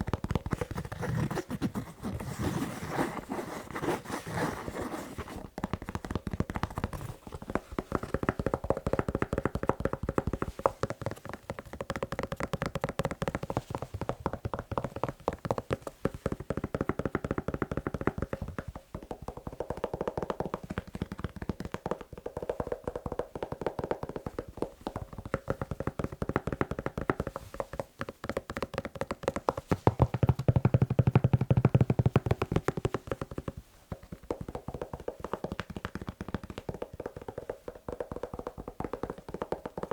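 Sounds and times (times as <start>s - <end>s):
fast tapping on a shoe: 0.0s - 39.9s.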